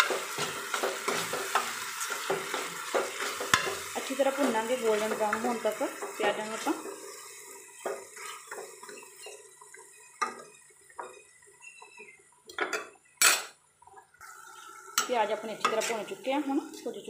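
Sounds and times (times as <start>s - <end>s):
spoon scraping a pan: 0.0s - 13.6s, 14.9s - 16.2s
onions frying: 0.0s - 17.0s.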